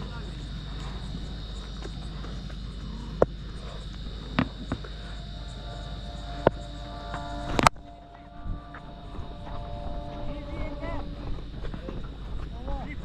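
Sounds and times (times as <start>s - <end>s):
low rumble: 0.0s - 12.6s
high-pitched whine: 0.0s - 13.0s.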